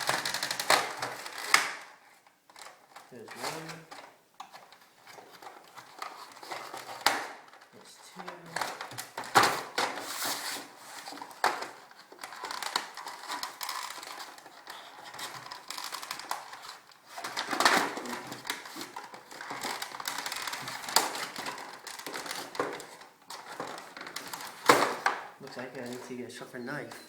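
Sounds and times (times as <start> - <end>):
sharp plastic snaps: 0.0 - 26.1
knife cutting toy packaging: 0.0 - 26.2
packaging crinkling and crunching: 0.0 - 26.4.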